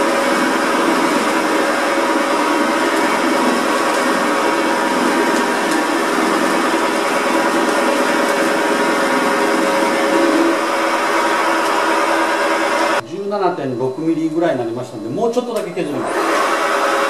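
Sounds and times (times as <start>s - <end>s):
lathe whirring: 0.0s - 13.0s, 13.8s - 17.0s.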